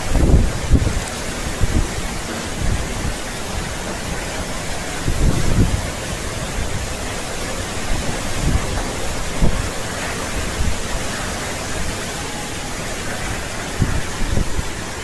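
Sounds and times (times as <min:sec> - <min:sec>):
heavy rain pouring: 0:00.0 - 0:15.0
strong wind gusting: 0:00.0 - 0:15.0.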